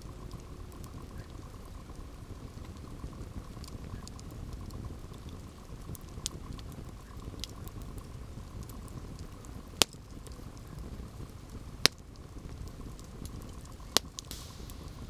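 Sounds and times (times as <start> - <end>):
campfire burning: 0.0 - 15.0
fire crackling: 0.0 - 15.0
loud fire pops: 0.0 - 15.0.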